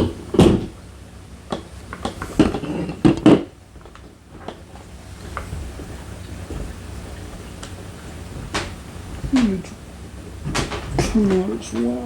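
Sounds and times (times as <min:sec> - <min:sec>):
quiet handling: 0:00.0 - 0:12.0.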